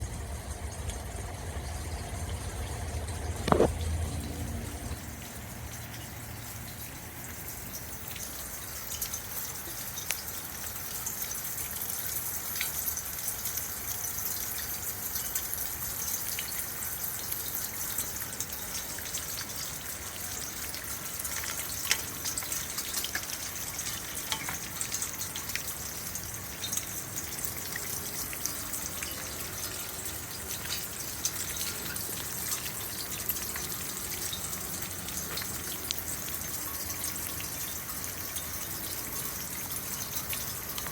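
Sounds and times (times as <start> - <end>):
sharp drip ticks: 1.7 - 40.9.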